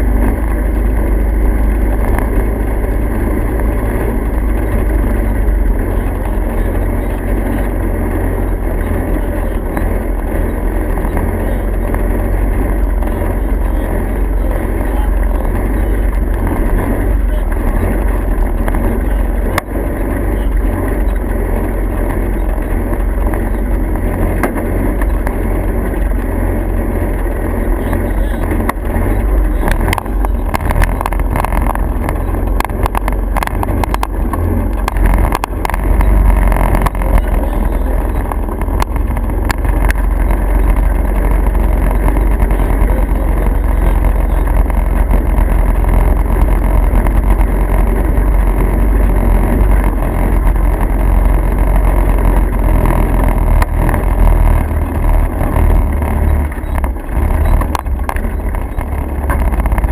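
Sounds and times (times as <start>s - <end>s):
motor vehicle rumble: 0.0s - 59.9s
clicks and rattles: 4.0s - 59.9s.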